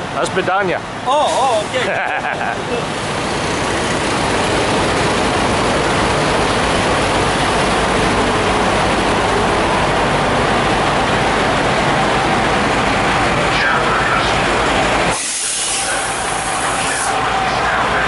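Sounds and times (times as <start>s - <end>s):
diesel truck engines idling: 0.0s - 18.0s.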